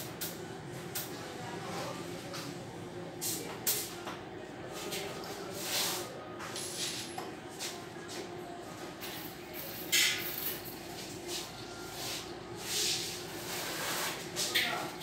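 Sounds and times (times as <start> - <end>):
workshop equipment humming: 0.0 - 15.0.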